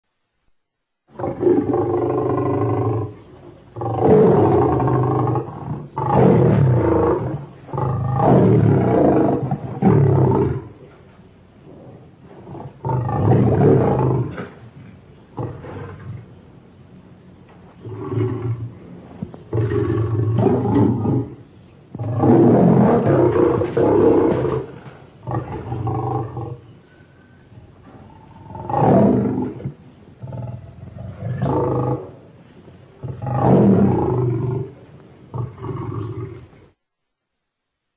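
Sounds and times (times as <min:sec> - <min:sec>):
lion roaring: 0:01.1 - 0:16.4, 0:17.8 - 0:26.7, 0:27.8 - 0:32.2, 0:32.9 - 0:36.6.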